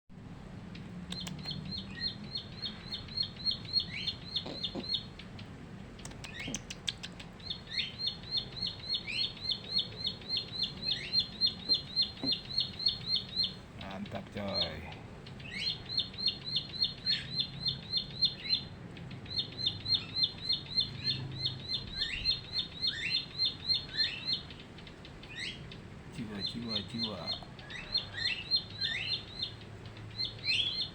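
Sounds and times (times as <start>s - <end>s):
bird high chipping song: 0.7s - 30.9s.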